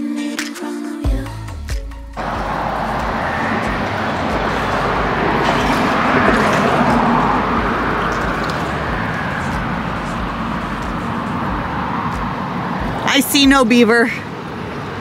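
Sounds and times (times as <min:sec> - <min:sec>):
road traffic tyre noise: 0:02.2 - 0:15.0.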